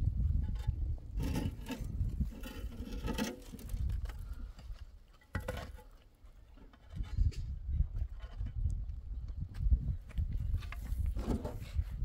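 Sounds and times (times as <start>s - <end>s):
concrete blocks scraping: 0.2s - 8.7s, 10.5s - 12.0s.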